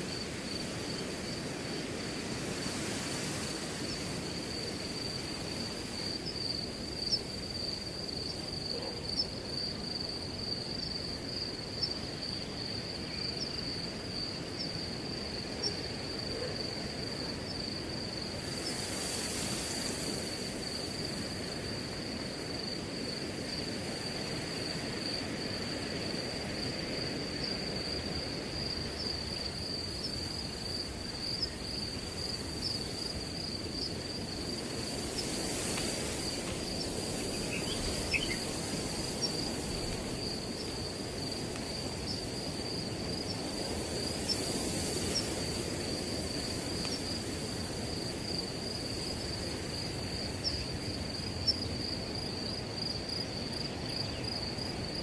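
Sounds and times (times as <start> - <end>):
crickets trilling: 0.0 - 55.0
wind rushing through grass: 0.0 - 55.0.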